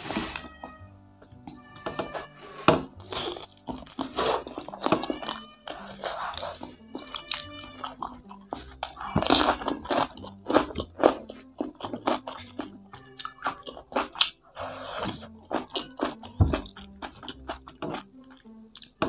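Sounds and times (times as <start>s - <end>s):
crunching and chewing food: 0.0s - 19.0s.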